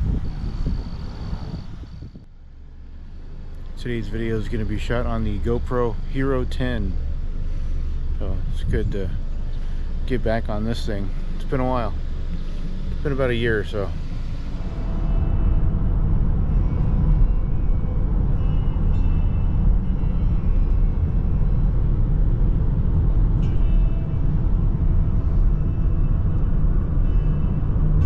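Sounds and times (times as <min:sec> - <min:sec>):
car road and engine noise: 0:00.0 - 0:28.0.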